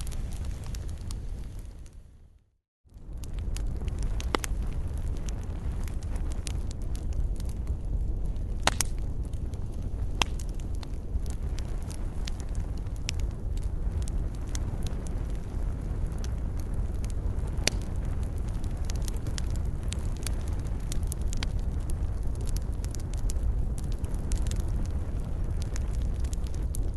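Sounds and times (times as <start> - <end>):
campfire crackling and popping: 0.0 - 2.1, 2.9 - 26.9
low fire rumble: 0.0 - 26.9.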